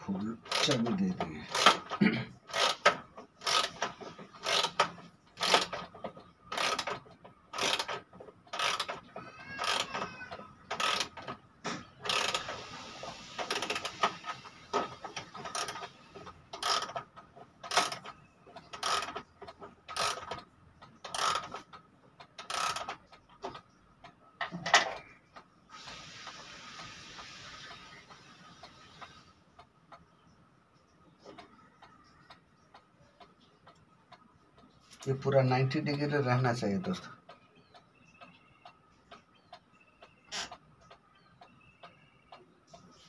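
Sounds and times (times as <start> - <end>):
pendulum clock mechanism clicking: 0.0 - 43.0.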